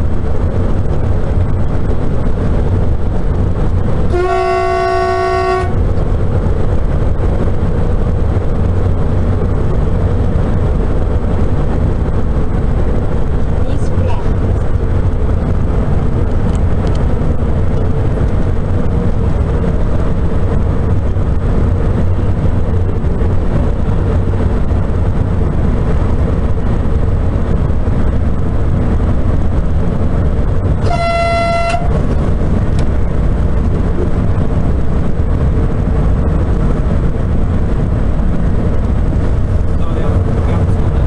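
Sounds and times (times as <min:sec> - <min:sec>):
train cab running rumble: 0:00.0 - 0:41.0.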